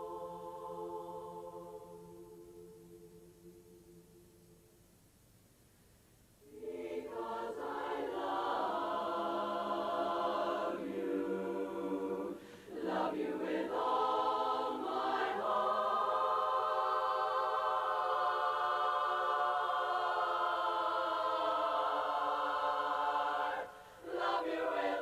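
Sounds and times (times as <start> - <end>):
women's chorus singing a cappella: 0.0 - 4.5, 6.4 - 25.0.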